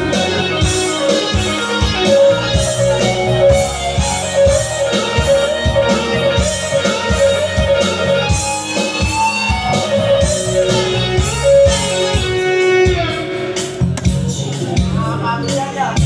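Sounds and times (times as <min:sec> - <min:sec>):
loud music with guitar and beat: 0:00.0 - 0:16.0.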